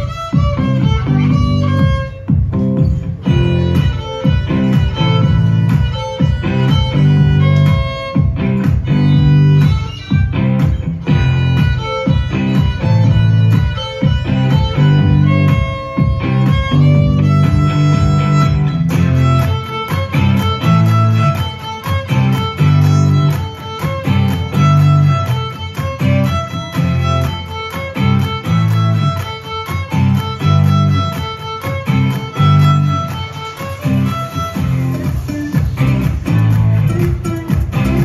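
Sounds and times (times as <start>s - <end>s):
steady bass notes: 0.0s - 38.0s
violin melody: 0.0s - 38.0s.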